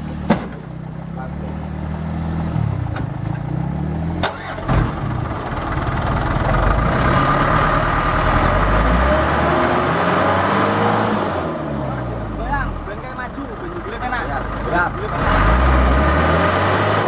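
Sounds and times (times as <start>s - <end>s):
diesel truck engine straining: 0.0s - 17.0s.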